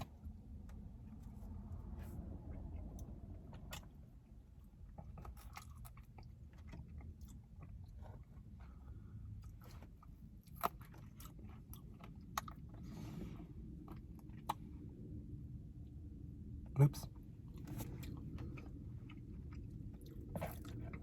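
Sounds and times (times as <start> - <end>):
chewing and crunching chicken wings: 0.0 - 21.0.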